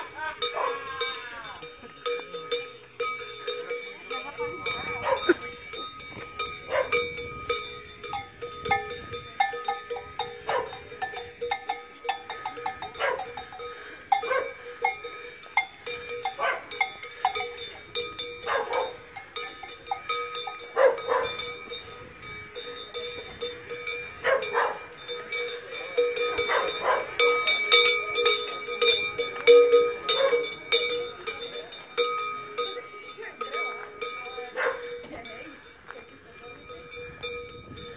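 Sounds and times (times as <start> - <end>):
large cowbells clanging: 0.0 - 37.9.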